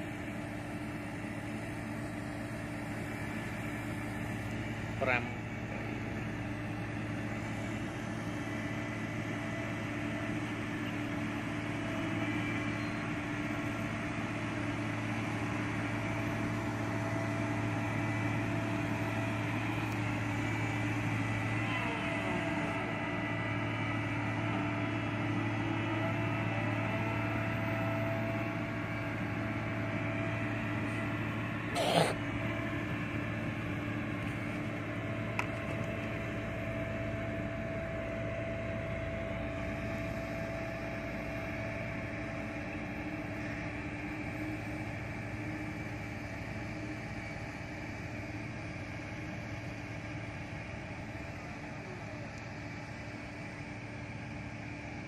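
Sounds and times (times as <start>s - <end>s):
road roller diesel engine: 0.0s - 55.0s.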